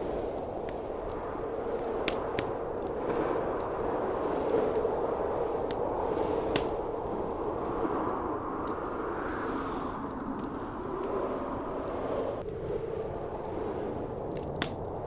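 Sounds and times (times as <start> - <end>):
howling blizzard wind: 0.0 - 15.0
wood fire crackling and popping: 0.0 - 15.0.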